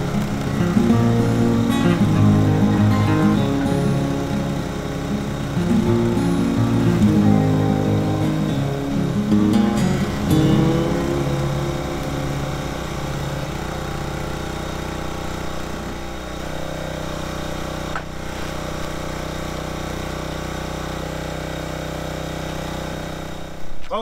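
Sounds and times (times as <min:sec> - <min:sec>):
small engine running: 0:00.0 - 0:23.7.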